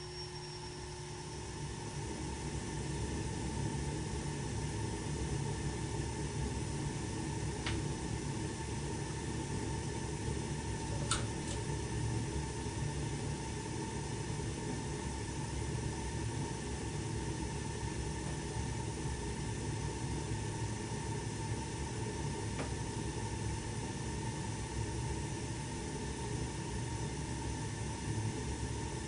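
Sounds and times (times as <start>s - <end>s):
furnace fan whirring: 0.0s - 29.0s.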